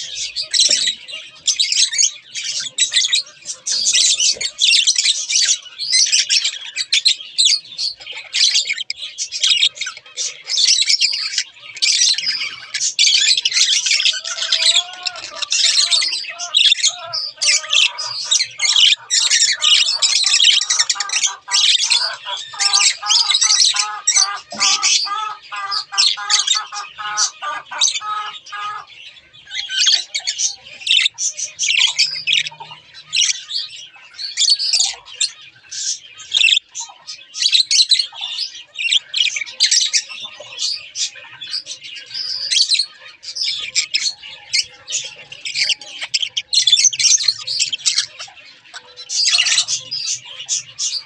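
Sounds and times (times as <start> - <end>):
budgerigars chirping: 0.0 - 51.0.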